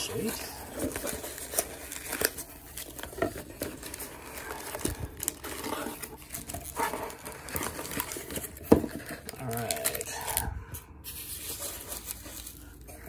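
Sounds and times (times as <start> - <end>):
packing material crinkling: 0.0 - 13.0.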